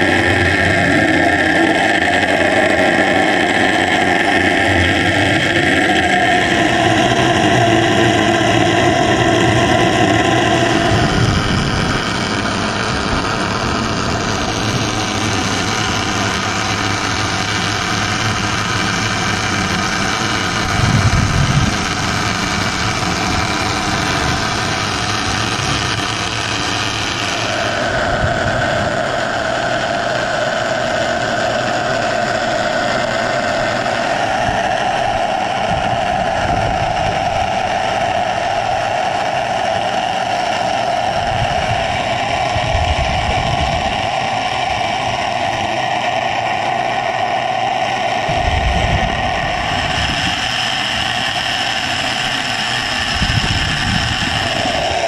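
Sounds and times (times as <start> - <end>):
underwater mechanical hum: 0.0 - 55.0.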